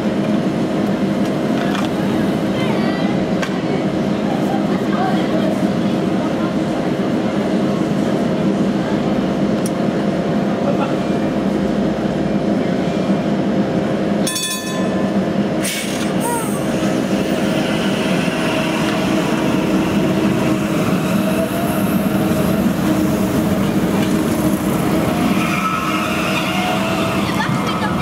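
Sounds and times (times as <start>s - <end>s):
tram electric drive hum: 0.0s - 28.0s.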